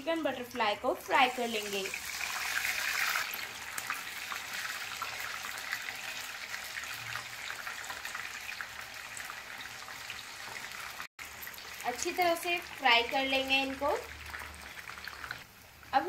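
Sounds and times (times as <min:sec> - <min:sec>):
oil sizzling and crackling: 0:00.0 - 0:16.0.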